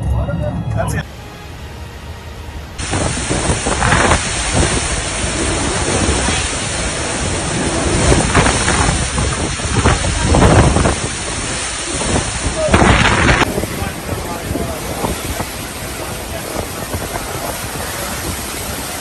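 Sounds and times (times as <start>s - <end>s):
hurricane wind blasting microphone: 0.7s - 19.0s.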